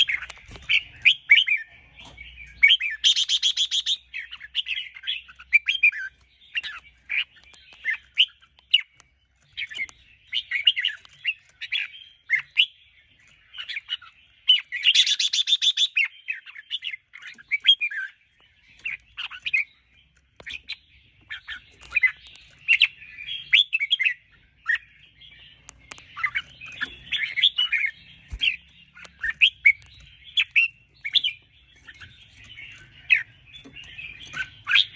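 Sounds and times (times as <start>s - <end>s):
bird singing: 0.0s - 34.9s.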